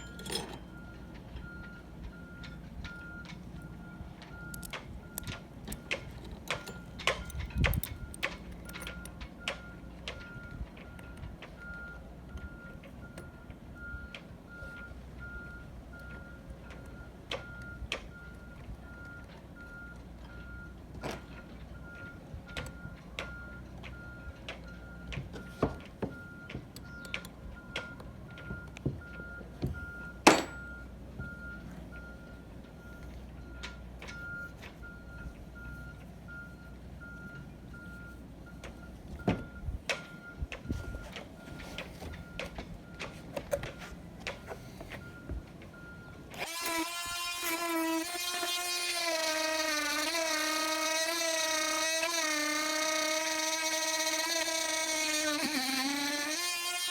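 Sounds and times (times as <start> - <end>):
vehicle reversing alarm beeping: 0.0 - 46.4.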